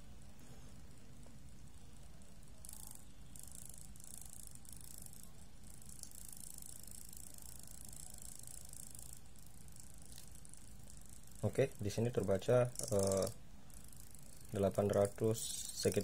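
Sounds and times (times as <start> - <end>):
small motor whirring: 0.0 - 16.0.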